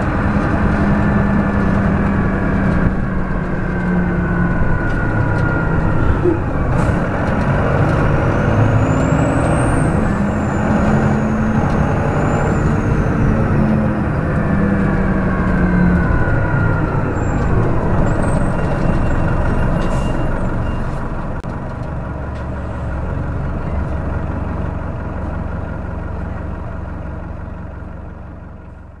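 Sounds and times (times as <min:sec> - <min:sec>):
bus diesel engine running: 0:00.0 - 0:29.0.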